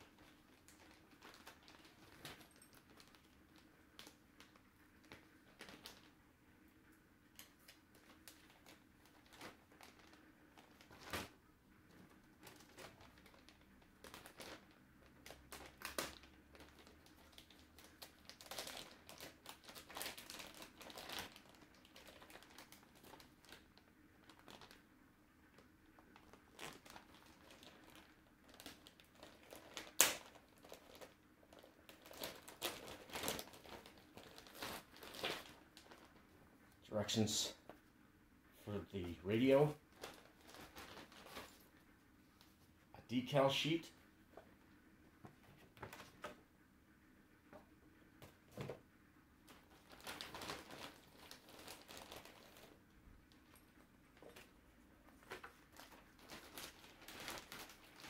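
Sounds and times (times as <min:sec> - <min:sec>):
paper crinkling and rustling: 0:00.0 - 0:06.2, 0:07.3 - 0:24.9, 0:25.5 - 0:36.4, 0:39.0 - 0:42.6, 0:44.3 - 0:46.4, 0:49.4 - 0:58.0.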